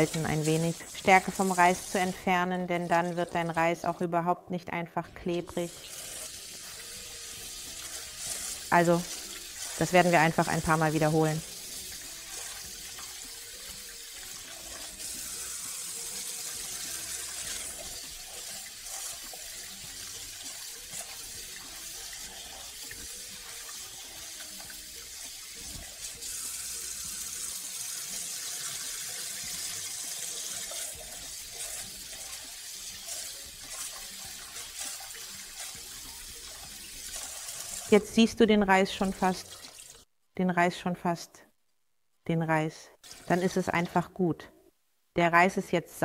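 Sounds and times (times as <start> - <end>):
tap water running into pot: 0.0 - 3.6, 5.5 - 38.0, 39.0 - 40.1, 43.0 - 43.3.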